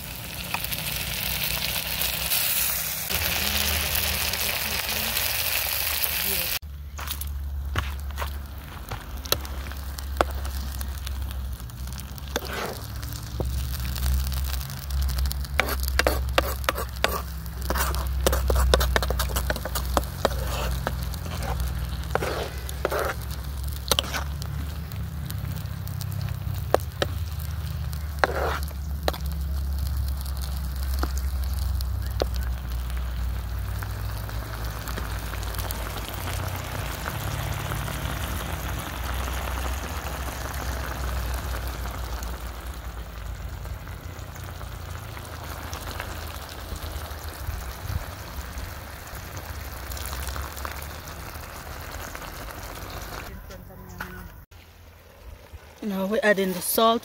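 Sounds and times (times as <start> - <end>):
sauce sizzling and bubbling: 0.0 - 53.3, 54.4 - 57.0
sharp crackles and clicks: 0.0 - 57.0.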